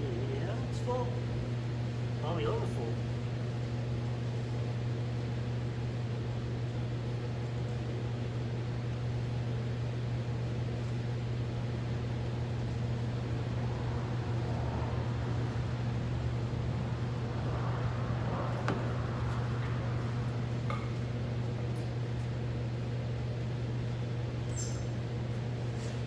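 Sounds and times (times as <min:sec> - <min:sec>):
electric machine hum: 0:00.0 - 0:25.6.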